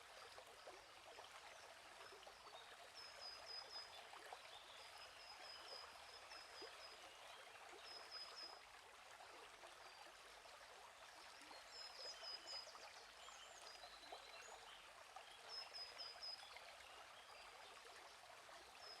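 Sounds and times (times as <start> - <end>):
small stream babbling: 0.0 - 19.0.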